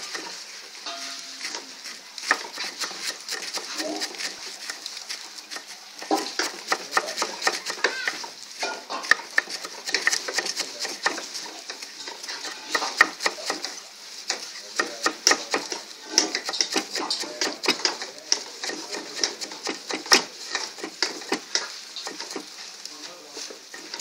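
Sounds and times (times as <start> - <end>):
knives chopping greens on wood: 1.4 - 8.2, 9.0 - 22.5.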